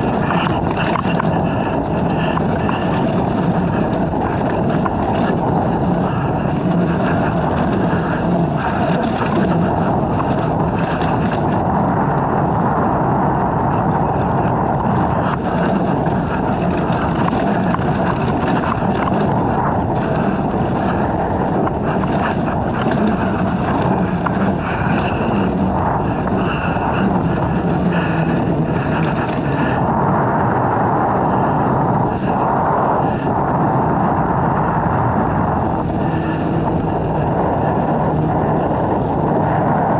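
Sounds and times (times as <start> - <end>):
dirt bike engine running: 0.0 - 39.9
wind on microphone: 0.0 - 39.9.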